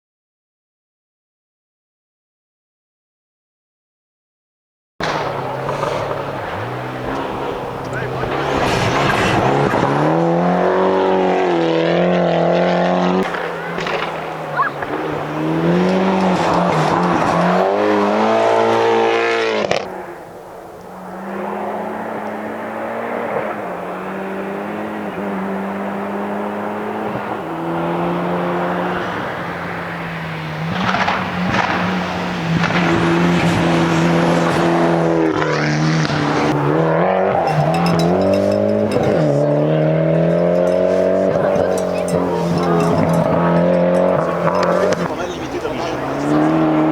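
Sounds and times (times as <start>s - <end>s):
rally car engine revving: 5.0s - 46.9s.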